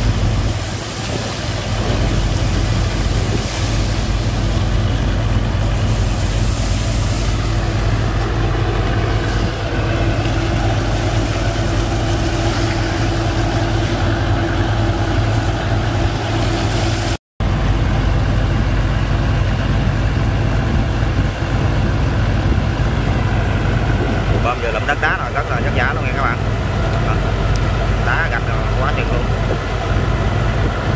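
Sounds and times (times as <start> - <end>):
pump engine droning: 0.0 - 30.9.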